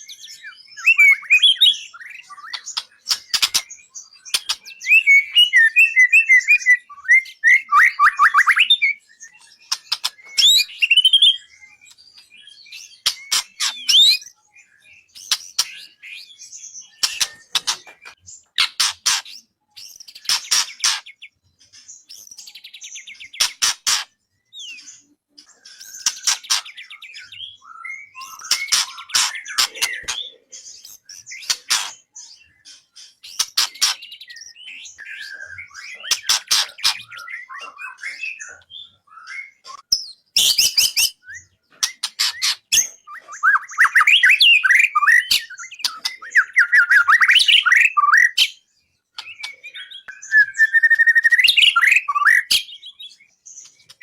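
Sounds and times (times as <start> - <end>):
songbird trills and whistles: 0.0 - 54.0.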